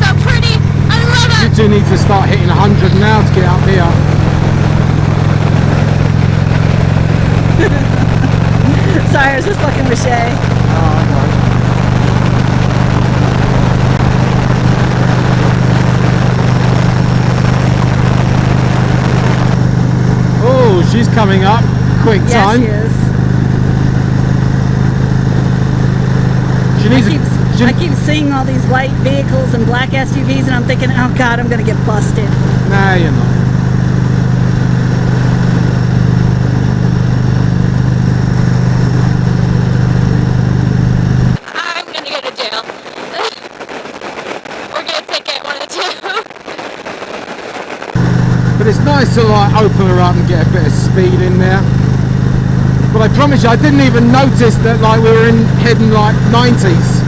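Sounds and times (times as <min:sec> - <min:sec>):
motorcycle engine humming: 0:00.0 - 0:57.0
wind rush: 0:00.4 - 0:20.5, 0:22.6 - 0:50.6.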